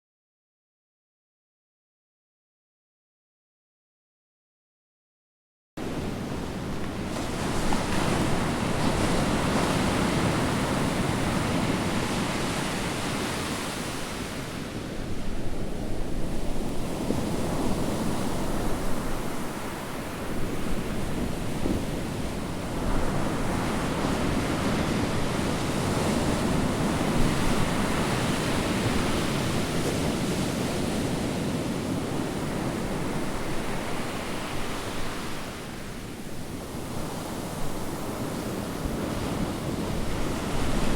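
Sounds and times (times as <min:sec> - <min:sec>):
wind rumbling on microphone: 0:05.8 - 0:40.9.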